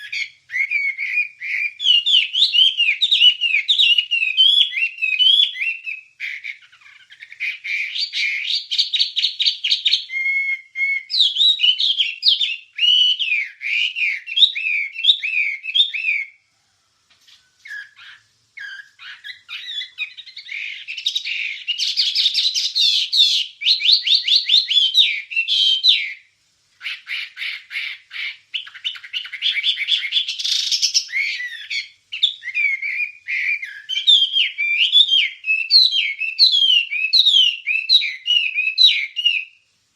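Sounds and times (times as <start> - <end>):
songbird singing: 0.0 - 39.8.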